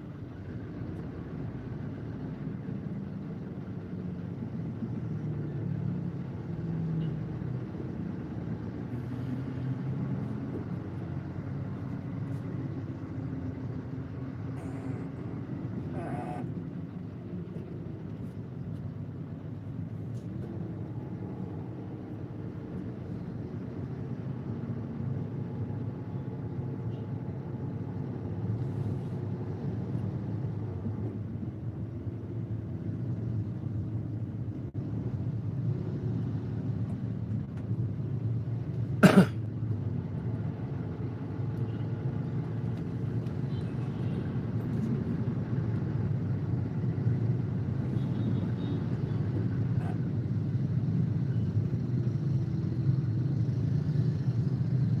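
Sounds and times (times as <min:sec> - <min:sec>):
car engine rumble: 0:00.0 - 0:55.0
surrounding traffic: 0:00.0 - 0:55.0.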